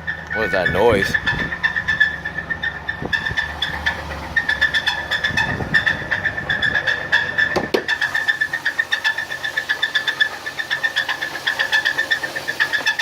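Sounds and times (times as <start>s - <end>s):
engine running: 0.0s - 13.0s
fast engine knock ticking: 0.0s - 13.0s.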